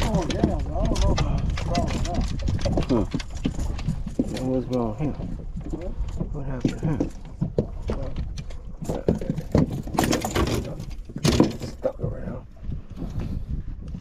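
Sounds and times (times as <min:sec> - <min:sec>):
fishing rods knocking and clattering: 0:00.0 - 0:12.2
wind rumble on microphone: 0:00.0 - 0:14.0.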